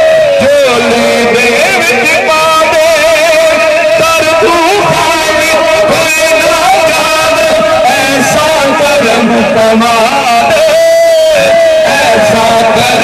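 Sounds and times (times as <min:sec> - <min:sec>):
men singing over pa system: 0:00.0 - 0:13.0.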